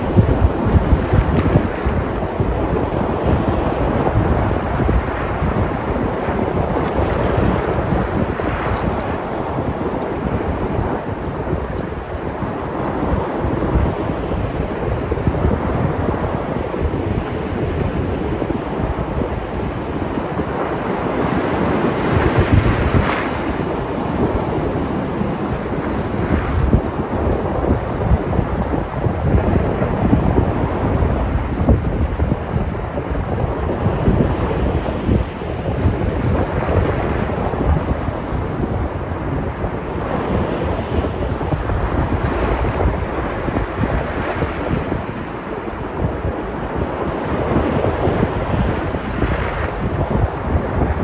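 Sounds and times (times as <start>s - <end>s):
waves breaking: 0.0s - 51.0s
wind buffeting microphone: 0.0s - 51.0s.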